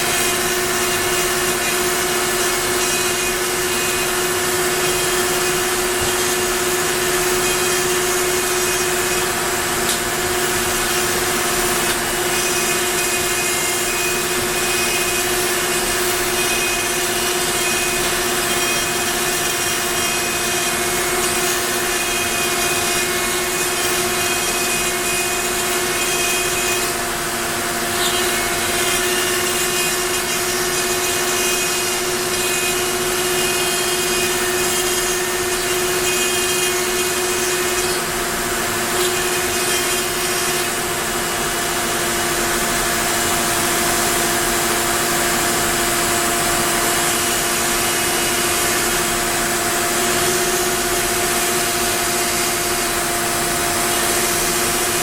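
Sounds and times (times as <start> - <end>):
router bit rasping through wood: 0.0 - 55.0
router spindle whining: 0.0 - 55.0.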